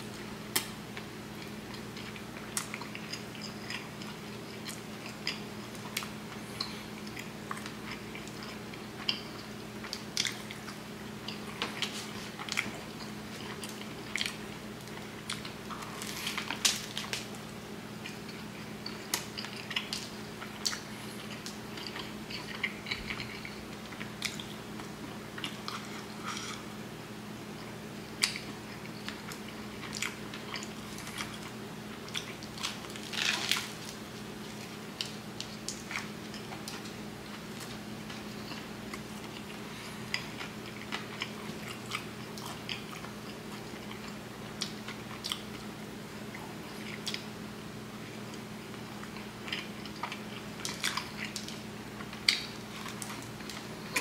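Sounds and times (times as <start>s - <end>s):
steady low hum: 0.0s - 54.0s
chewing with wet mouth clicks: 0.1s - 26.7s, 27.6s - 33.3s, 34.4s - 45.7s, 46.3s - 47.3s, 48.3s - 54.0s.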